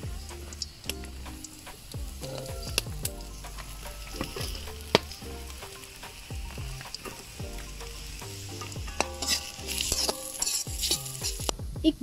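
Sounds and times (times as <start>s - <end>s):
metal spatula scraping wok: 0.0s - 11.5s
food sizzling in hot oil: 0.0s - 11.6s
background music: 0.0s - 12.0s.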